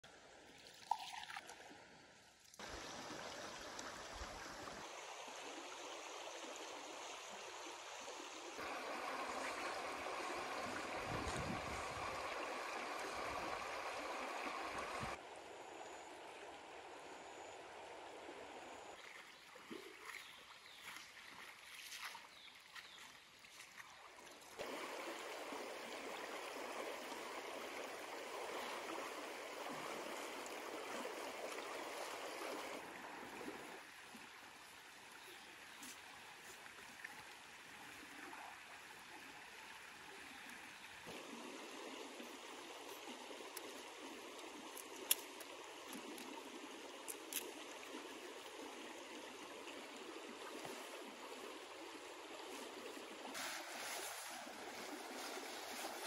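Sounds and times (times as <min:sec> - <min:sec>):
stream water over stones: 0:00.0 - 0:56.0.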